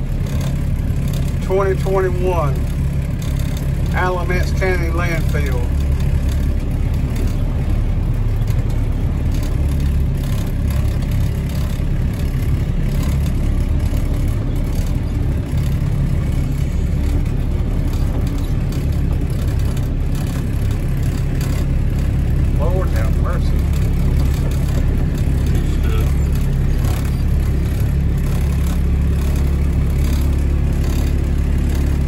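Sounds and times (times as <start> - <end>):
vehicle driving on dirt road: 0.0 - 32.0.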